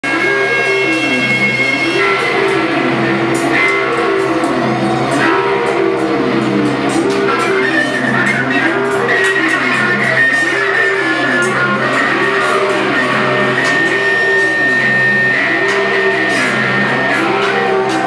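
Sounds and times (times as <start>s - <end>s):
gliding pitched tone: 0.0s - 18.0s
high ringing tones: 0.0s - 18.0s
noise music drone: 0.0s - 18.0s.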